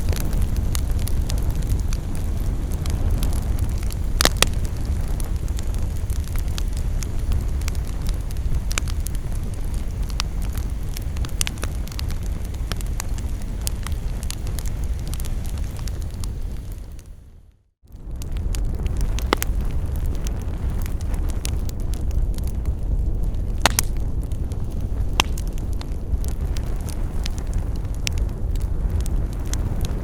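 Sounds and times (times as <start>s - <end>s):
campfire crackling and popping: 0.0s - 17.2s, 17.9s - 30.0s
low rumble: 0.0s - 17.3s, 17.9s - 30.0s.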